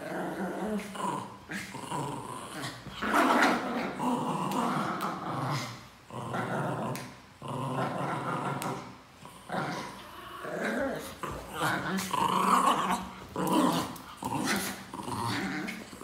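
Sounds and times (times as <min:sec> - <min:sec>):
dogs growling: 0:00.0 - 0:16.0.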